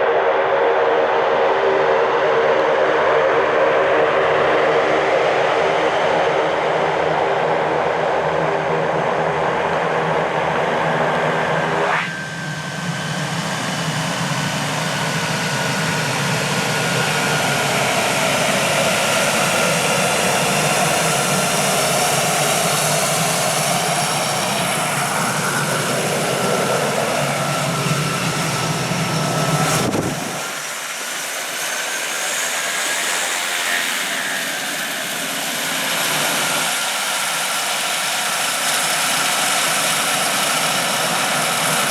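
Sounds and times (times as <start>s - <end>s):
turboprop plane engine passing: 1.3s - 41.9s.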